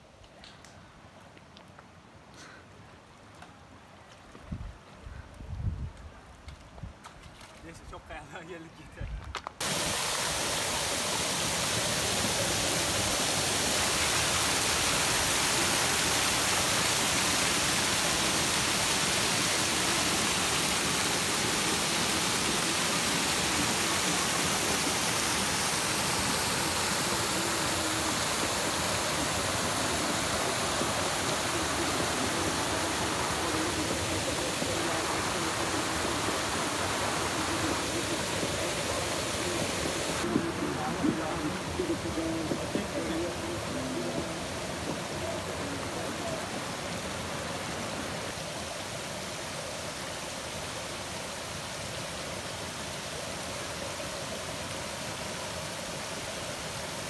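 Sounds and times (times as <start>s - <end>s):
stream water rushing: 9.6s - 57.0s.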